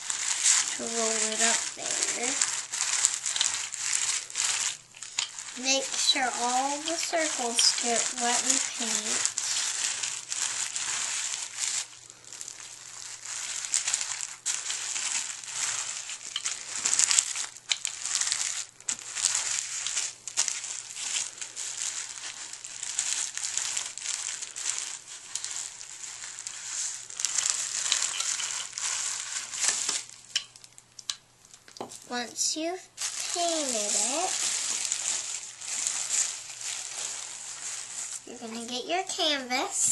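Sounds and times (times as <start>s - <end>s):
roller crackling over bubble wrap: 0.0s - 39.9s.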